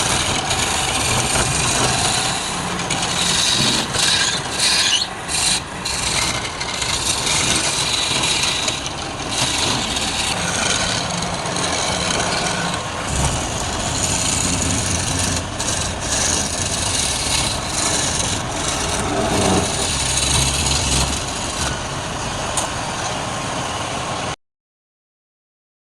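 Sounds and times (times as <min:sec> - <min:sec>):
wood rasping on lathe: 0:00.0 - 0:24.2
lathe motor hum: 0:00.0 - 0:24.4.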